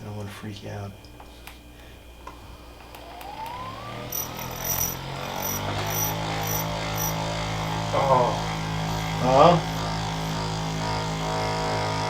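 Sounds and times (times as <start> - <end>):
massager motor whining: 0.0 - 12.0.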